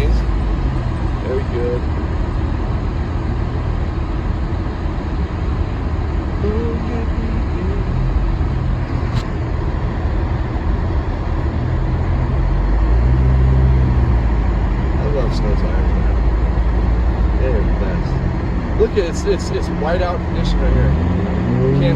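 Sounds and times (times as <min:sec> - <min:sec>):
car engine and tyres rumbling: 0:00.0 - 0:21.9.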